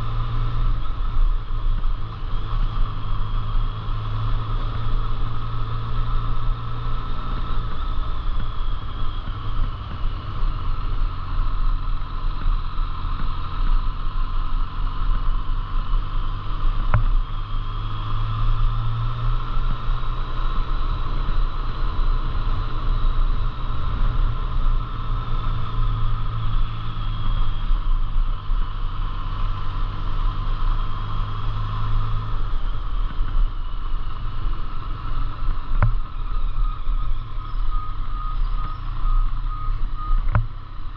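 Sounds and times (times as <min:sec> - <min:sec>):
engine droning: 0:00.0 - 0:40.9.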